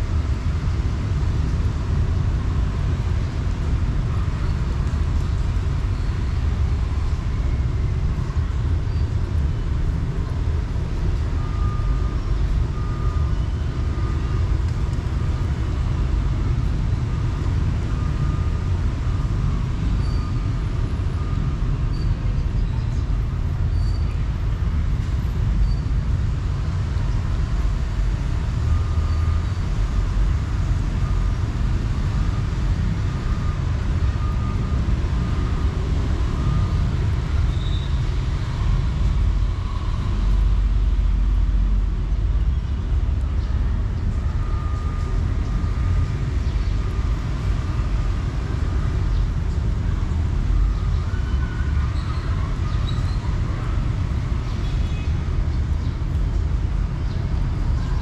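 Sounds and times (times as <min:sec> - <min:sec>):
low outdoor rumble: 0:00.0 - 0:58.0.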